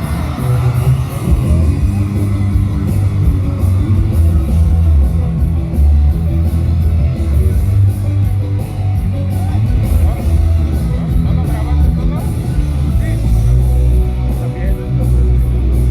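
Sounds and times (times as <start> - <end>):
rock music over sound system: 0.0 - 15.9.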